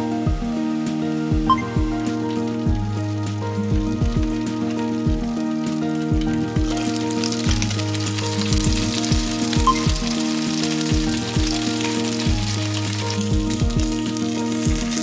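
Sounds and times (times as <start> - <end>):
background music held tones: 0.0 - 15.0
food sizzling in oil: 0.0 - 15.0.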